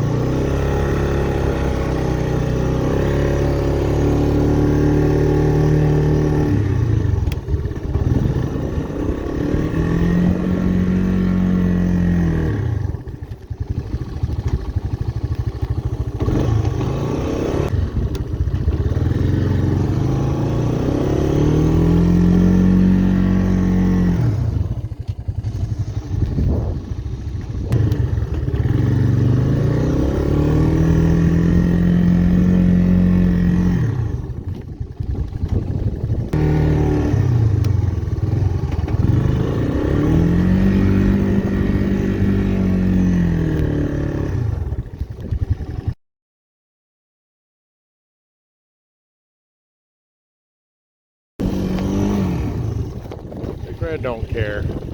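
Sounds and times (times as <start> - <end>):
engine revving under load: 0.0 - 46.0, 51.4 - 54.9.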